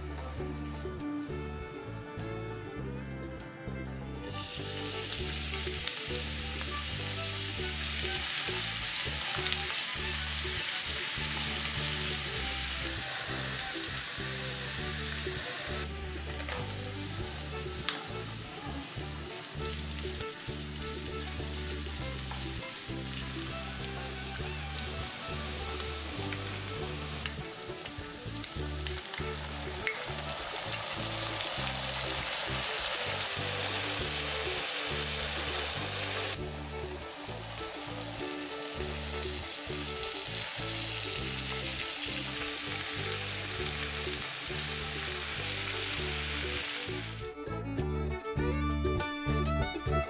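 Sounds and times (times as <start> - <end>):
light background music: 0.0 - 50.0
food sizzling in hot oil: 4.2 - 47.2.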